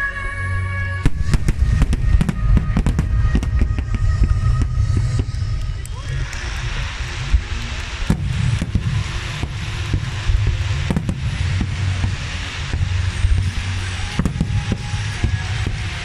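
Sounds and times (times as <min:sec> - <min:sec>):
fireworks rumble: 0:00.0 - 0:16.0
fireworks booming: 0:01.0 - 0:16.0
hiss of sparks: 0:01.1 - 0:16.0.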